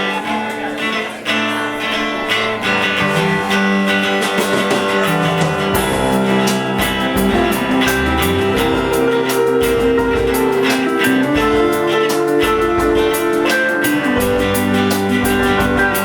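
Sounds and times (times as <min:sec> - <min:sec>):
electric guitars holding chords: 0:00.0 - 0:16.0
steady drum beat: 0:02.7 - 0:16.0.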